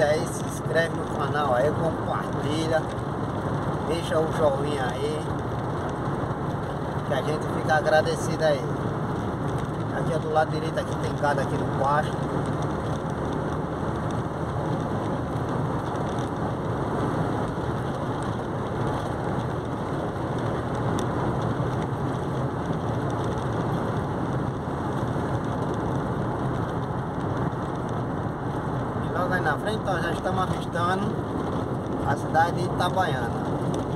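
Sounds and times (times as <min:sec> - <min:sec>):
low engine hum: 0:00.0 - 0:33.9
tyre rumble on highway: 0:00.0 - 0:33.9.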